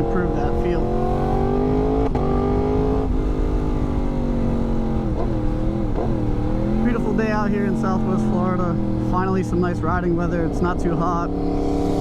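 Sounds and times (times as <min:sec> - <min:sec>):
motorcycle engine running: 0:02.1 - 0:12.0.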